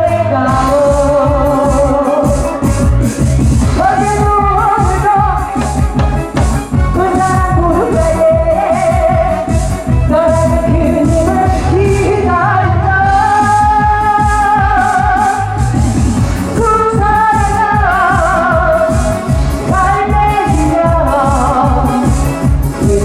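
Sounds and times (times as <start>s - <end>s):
person singing with vibrato: 0.0s - 3.0s, 3.7s - 23.0s
backing track with steady beat: 0.0s - 23.0s.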